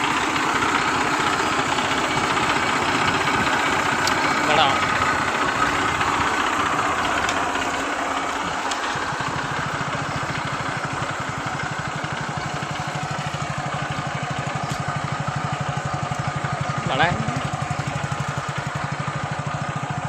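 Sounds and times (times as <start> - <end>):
tractor diesel engine chugging: 0.0 - 20.0.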